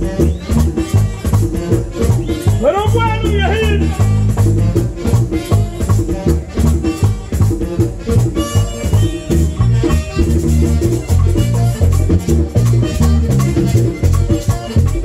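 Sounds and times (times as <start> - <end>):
bass line: 0.0 - 15.0
drum strokes: 0.0 - 15.0.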